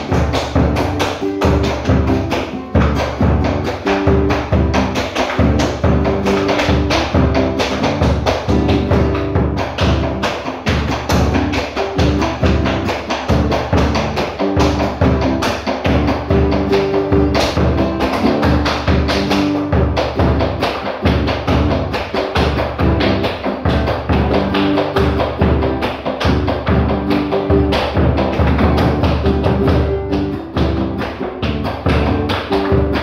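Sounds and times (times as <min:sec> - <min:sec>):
boots stamping on hard floor: 0:00.0 - 0:33.0
drum beating fast rhythm: 0:00.0 - 0:33.0
held instrumental notes: 0:00.0 - 0:33.0.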